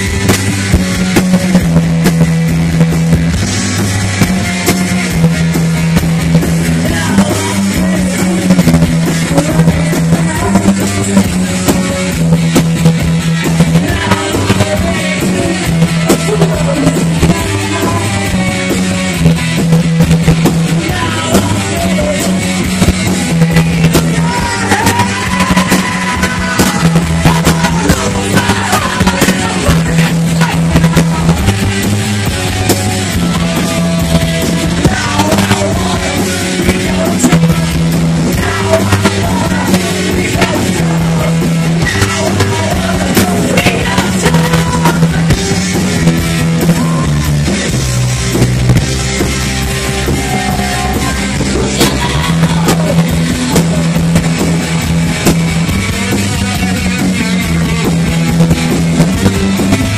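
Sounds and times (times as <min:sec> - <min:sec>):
live rock band playing: 0:00.0 - 0:59.9
repeating bass riff: 0:00.0 - 0:59.9.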